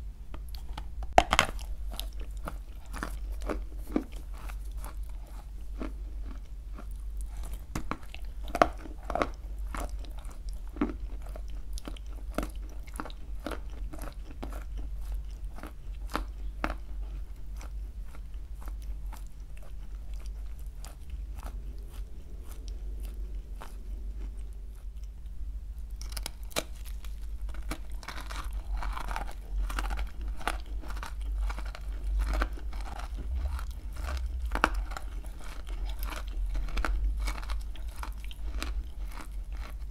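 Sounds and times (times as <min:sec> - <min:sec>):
chewing dry clay crunches: 0:00.3 - 0:39.9.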